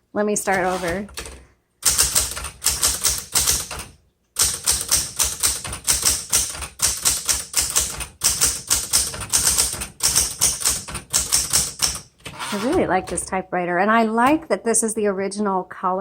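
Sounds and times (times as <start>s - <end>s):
manual typewriter clacking: 0.5s - 13.4s.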